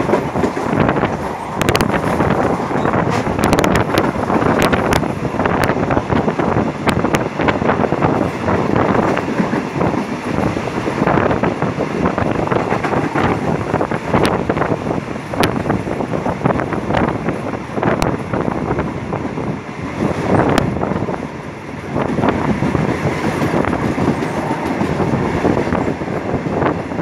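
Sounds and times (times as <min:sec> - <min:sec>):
wheels clicking on rails: 0:00.0 - 0:18.8, 0:19.8 - 0:27.0
passenger train running noise: 0:00.0 - 0:27.0
wind buffeting microphone: 0:00.0 - 0:27.0.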